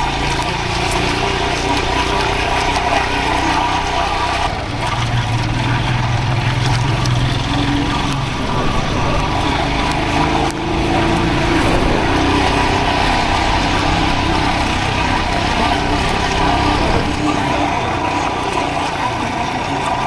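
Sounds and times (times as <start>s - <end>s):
road noise: 0.0s - 20.0s
vehicle engine running: 0.0s - 20.0s
wind: 0.0s - 20.0s.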